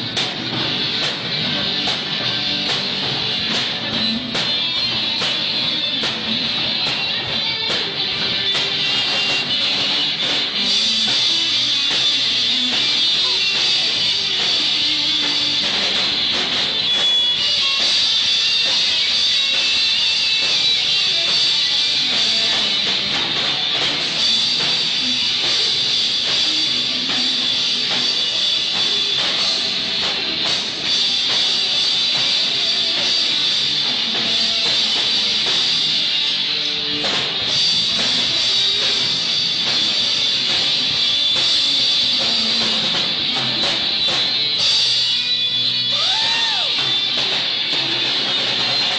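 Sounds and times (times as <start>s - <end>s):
drum hits: 0.0s - 44.9s, 45.8s - 48.9s
rock band playing: 0.0s - 48.9s.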